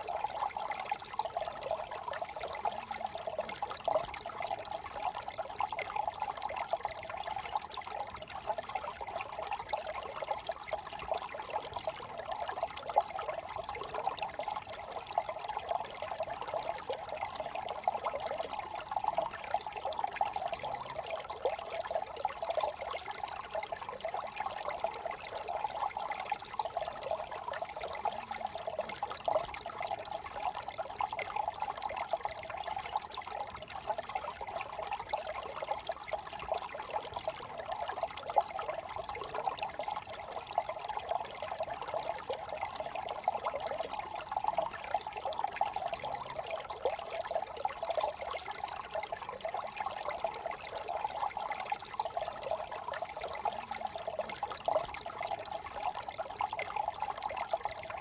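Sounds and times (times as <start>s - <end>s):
brook trickling over stones: 0.0s - 58.0s.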